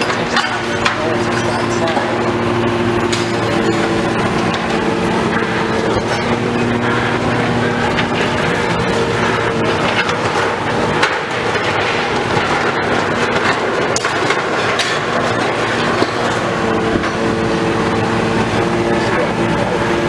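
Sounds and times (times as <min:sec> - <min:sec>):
debris clanking and crunching: 0:00.0 - 0:19.7
diesel engine under load: 0:00.0 - 0:20.0.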